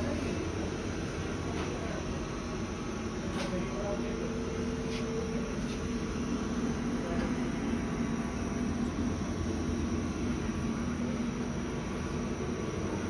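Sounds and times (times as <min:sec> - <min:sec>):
lab machinery humming: 0:00.0 - 0:13.0.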